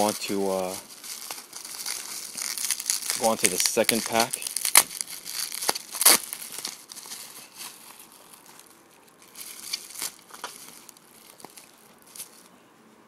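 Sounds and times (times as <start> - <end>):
plastic packaging crinkling: 0.0 - 12.5.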